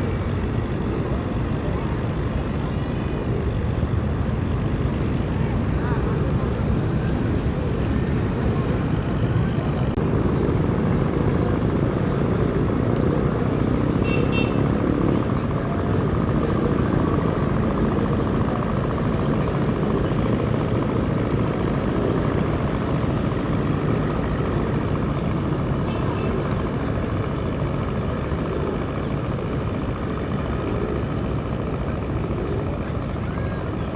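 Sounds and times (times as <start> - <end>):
low engine rumble: 0.0 - 33.9.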